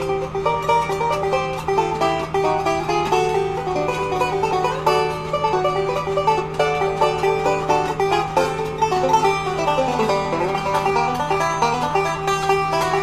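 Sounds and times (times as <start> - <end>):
bluegrass banjo music: 0.0 - 13.0
steady low hum: 0.0 - 13.0.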